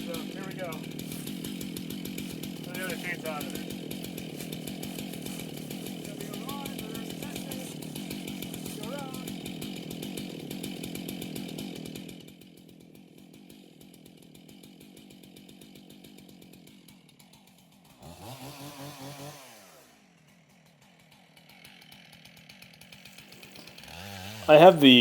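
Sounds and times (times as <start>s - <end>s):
chainsaw cutting into log: 0.0s - 25.0s.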